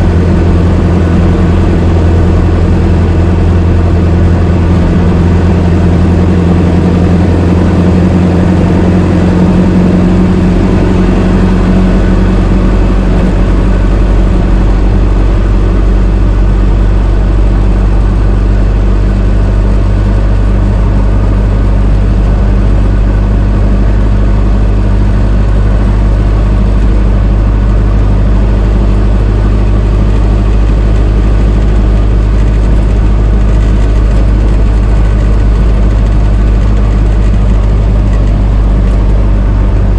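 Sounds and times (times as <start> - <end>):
old car engine running: 0.0 - 39.9.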